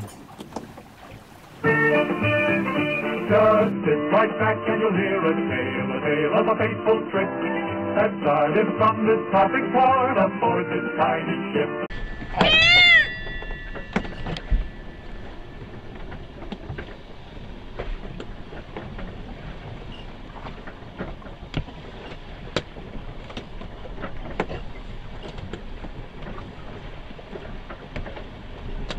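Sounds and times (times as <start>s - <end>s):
rushing water and wind: 0.0s - 6.6s, 11.9s - 28.9s.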